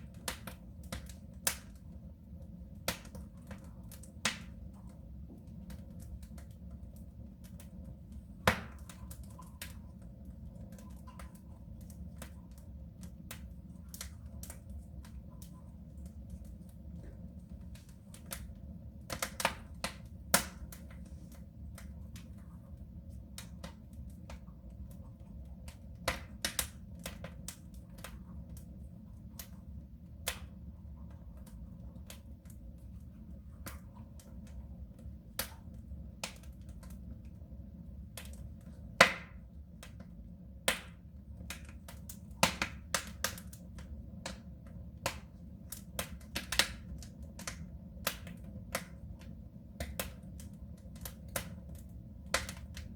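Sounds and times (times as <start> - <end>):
low fire rumble: 0.0 - 52.9
wood fire crackling and popping: 0.0 - 52.9.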